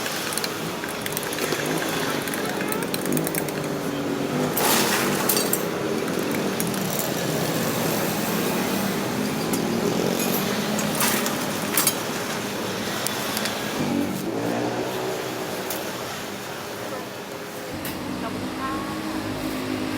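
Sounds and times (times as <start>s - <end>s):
small engines running: 0.0s - 19.9s
steady traffic hum: 0.0s - 19.9s.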